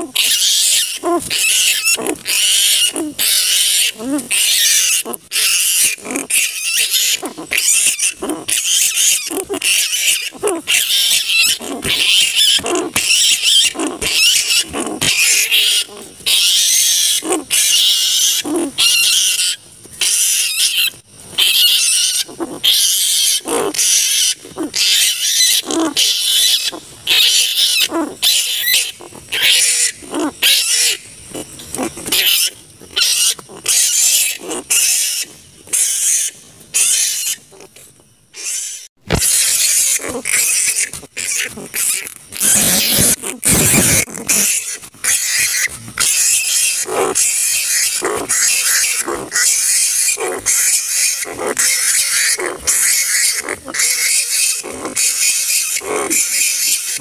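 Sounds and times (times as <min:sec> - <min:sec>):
flying foxes screeching: 0:00.0 - 0:37.4, 0:38.4 - 0:57.0.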